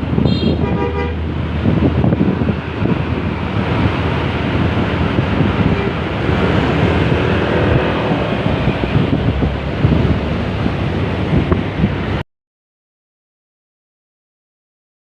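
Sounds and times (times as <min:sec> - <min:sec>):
bus engine and tyre rumble: 0:00.0 - 0:12.2
wind buffeting microphone: 0:00.0 - 0:12.2.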